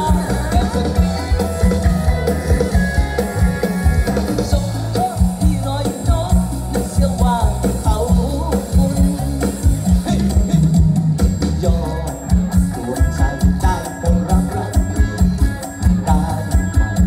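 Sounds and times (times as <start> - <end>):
drum beat: 0.0 - 17.0
electric guitar: 0.0 - 17.0
live band music: 0.0 - 17.0
person singing: 0.0 - 17.0.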